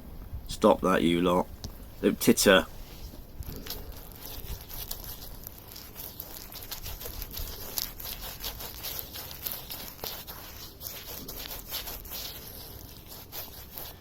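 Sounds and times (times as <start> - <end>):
paintbrush slapping thick paint: 2.4 - 14.0.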